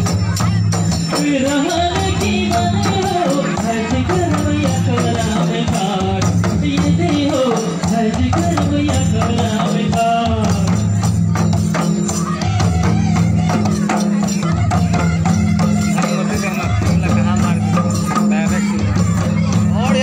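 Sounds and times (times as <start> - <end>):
hand-played barrel drums: 0.0 - 20.0
jingling rattling percussion: 0.0 - 20.0
voices singing: 0.0 - 20.0.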